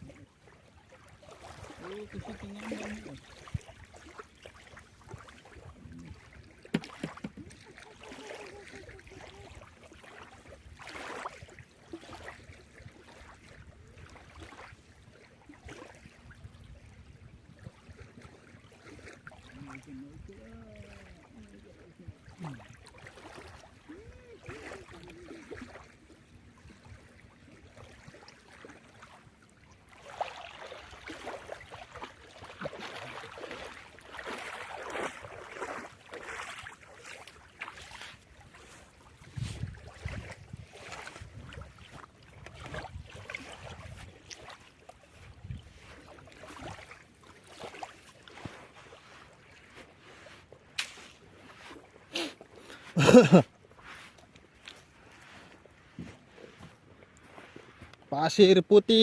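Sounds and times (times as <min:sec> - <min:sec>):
water noise: 0:00.0 - 0:59.0
wind: 0:00.0 - 0:59.0.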